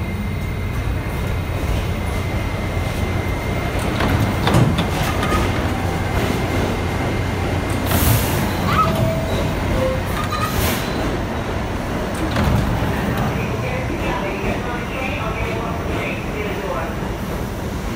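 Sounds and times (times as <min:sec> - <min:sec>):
subway train equipment rumble: 0:00.0 - 0:17.9.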